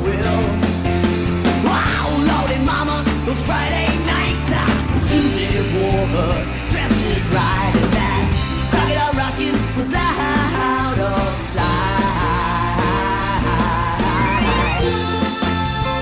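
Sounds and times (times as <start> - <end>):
rock and roll song with vocals: 0.0 - 16.0.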